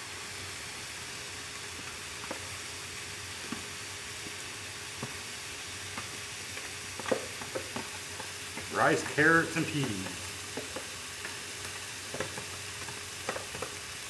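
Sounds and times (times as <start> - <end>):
rice sizzling on griddle: 0.0 - 14.0.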